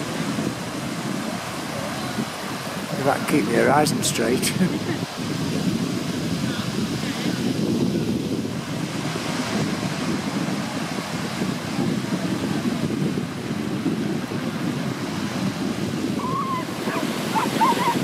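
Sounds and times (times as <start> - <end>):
small waves washing on beach: 0.0 - 18.0
wind buffeting microphone: 0.0 - 18.0.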